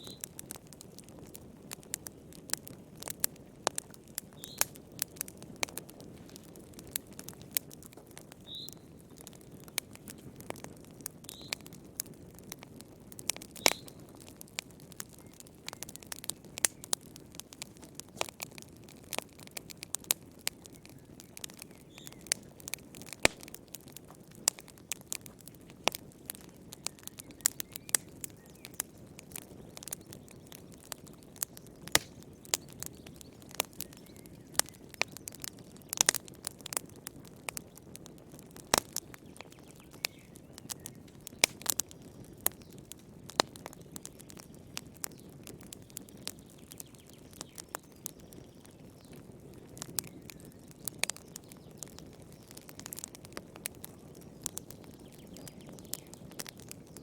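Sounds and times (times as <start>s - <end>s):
firewood crackling and popping: 0.0s - 57.0s
low rumble of flame: 0.0s - 57.0s.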